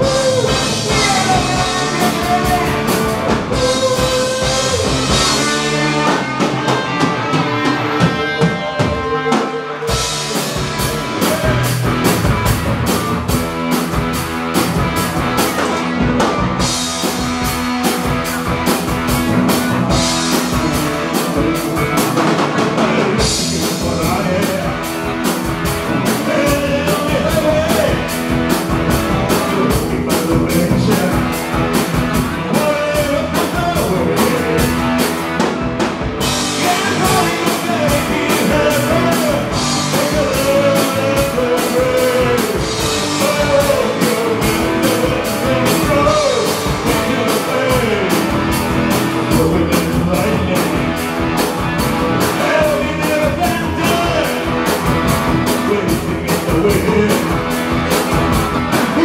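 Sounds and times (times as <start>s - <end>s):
male lead singer: 0.0s - 13.0s, 15.2s - 59.0s
live rock band playing: 0.0s - 59.0s.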